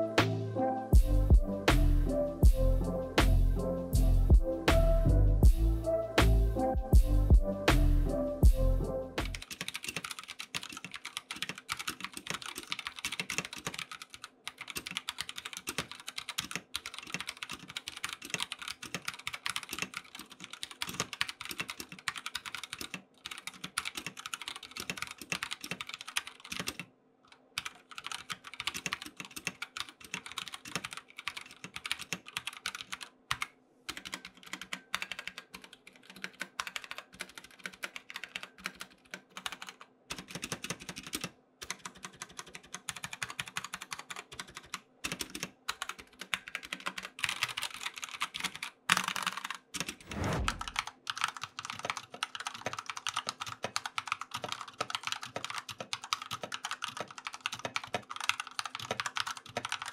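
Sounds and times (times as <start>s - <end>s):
mechanical keyboard typing: 9.2s - 59.9s.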